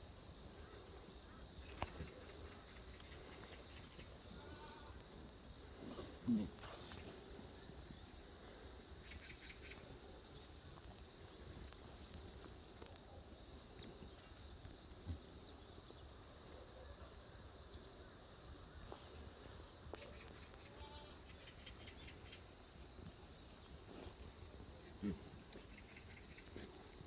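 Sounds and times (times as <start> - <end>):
faint bird chirps: 0.5 - 27.0.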